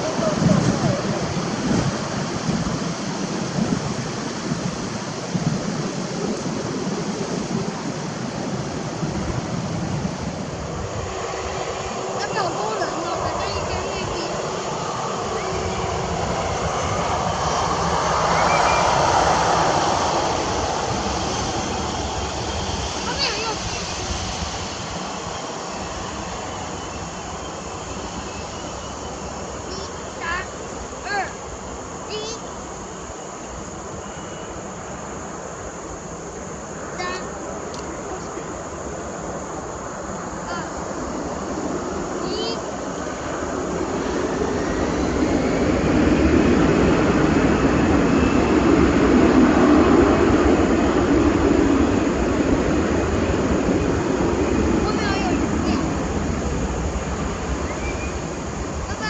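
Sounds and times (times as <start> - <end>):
faint high whine: 0.0 - 59.0
jet engine rush: 0.0 - 59.0.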